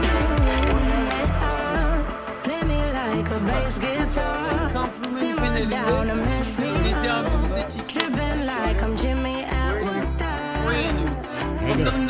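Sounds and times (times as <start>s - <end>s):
music with bass beat and melody: 0.0s - 12.0s.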